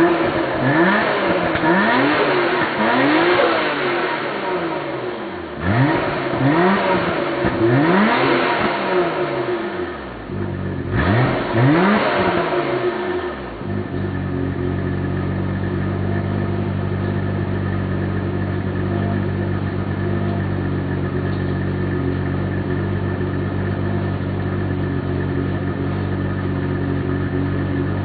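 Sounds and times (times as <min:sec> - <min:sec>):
car engine idling: 0:00.0 - 0:28.0
car engine revving: 0:00.0 - 0:28.0.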